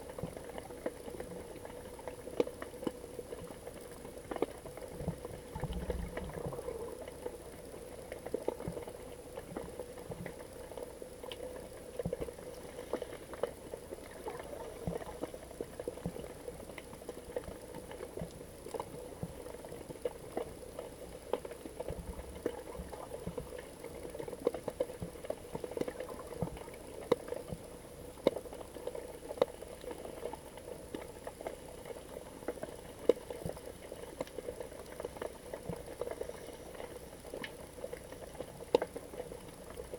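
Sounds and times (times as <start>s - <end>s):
steady low hum: 0.0s - 39.9s
underwater crackling and clicking: 0.0s - 39.9s.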